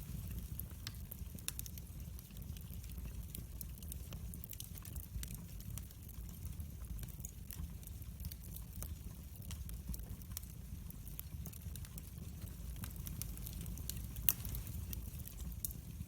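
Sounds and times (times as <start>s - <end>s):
fire flames rumbling: 0.0s - 16.0s
wood fire crackling and popping: 0.0s - 16.0s.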